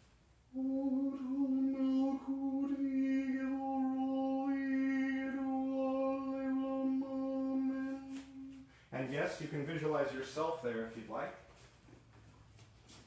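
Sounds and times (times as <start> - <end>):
man chanting on one pitch: 0.6 - 11.4.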